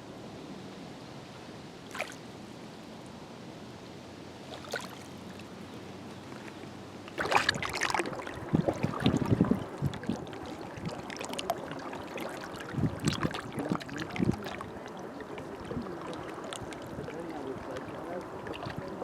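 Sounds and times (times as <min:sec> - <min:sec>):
small waves lapping and splashing: 0:00.0 - 0:19.0.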